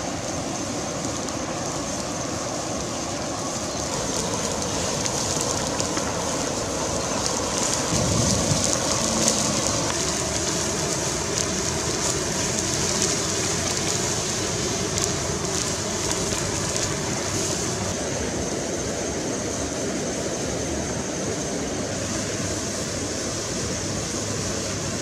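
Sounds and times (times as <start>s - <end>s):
steady rushing noise: 0.0s - 25.0s
wood fire crackling: 0.0s - 25.0s.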